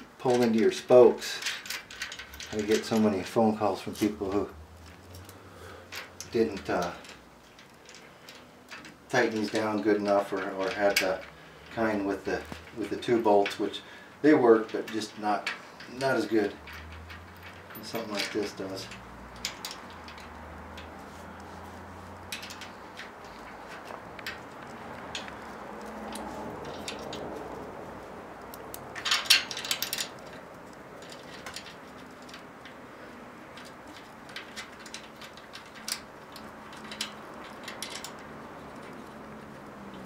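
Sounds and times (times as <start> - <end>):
metal clicks and scrapes of bolts: 0.2 - 40.0.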